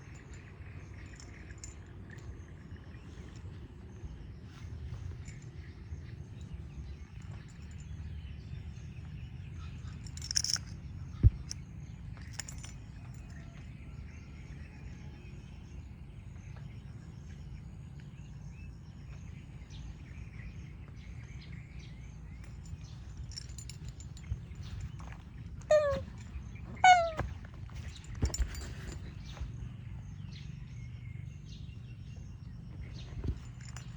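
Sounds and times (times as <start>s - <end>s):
faint bird chirps: 0.0s - 33.9s.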